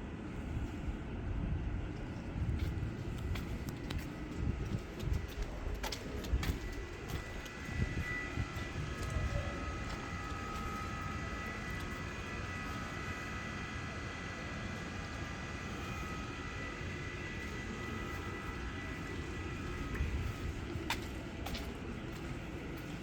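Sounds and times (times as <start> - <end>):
refrigeration unit droning: 0.0 - 23.0.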